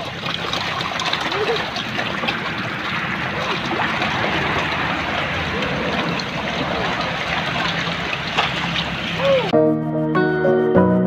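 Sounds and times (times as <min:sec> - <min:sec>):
fish thrashing in water: 0:00.0 - 0:09.5.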